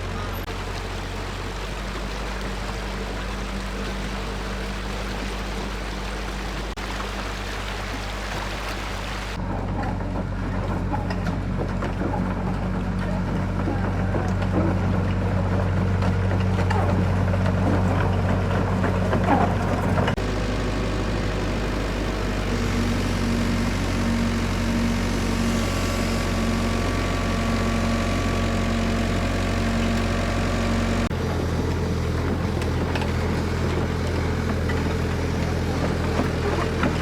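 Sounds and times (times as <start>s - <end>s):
engine running with low hum: 0.0s - 37.0s.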